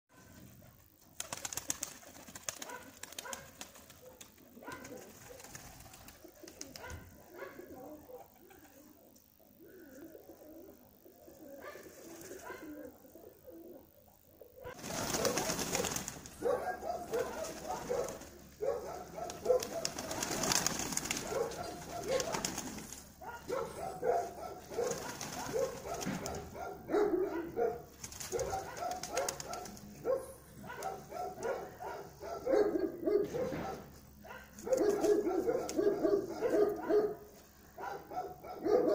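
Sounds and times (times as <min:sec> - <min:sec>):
pigeons cooing: 0:00.2 - 0:38.9.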